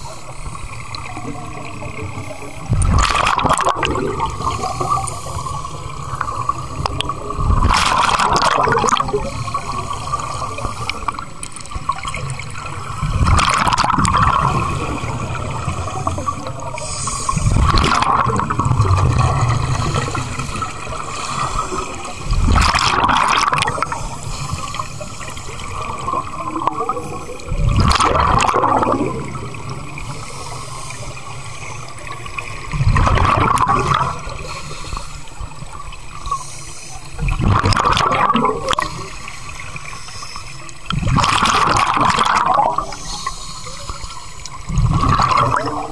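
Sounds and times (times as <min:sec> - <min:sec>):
exhaled bubbles gushing: 0:00.0 - 0:34.6, 0:37.0 - 0:39.9, 0:40.7 - 0:43.9, 0:44.5 - 0:45.9
underwater water noise: 0:00.0 - 0:45.9.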